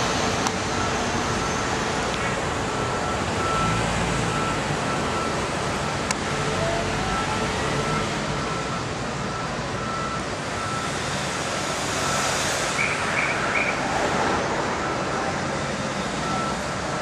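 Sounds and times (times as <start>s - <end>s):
street traffic: 0.0s - 17.0s
reversing alarm beeping: 0.6s - 13.9s, 14.8s - 17.0s.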